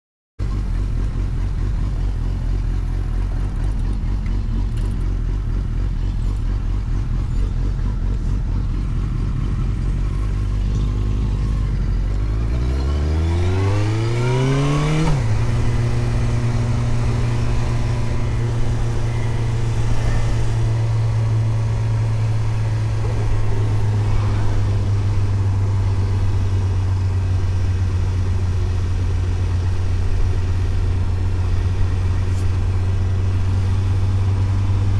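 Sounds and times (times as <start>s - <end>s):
motorcycle engine revving: 0.4s - 34.9s.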